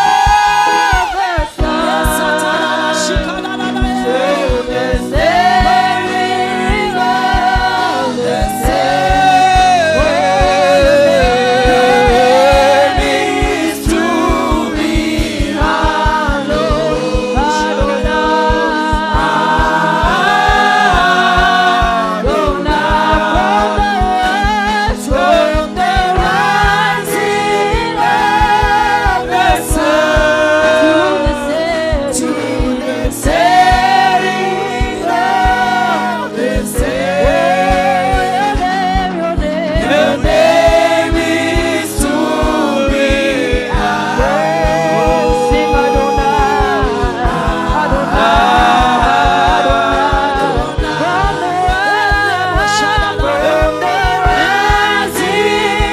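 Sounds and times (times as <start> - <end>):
gospel song with voices singing: 0.0 - 55.9.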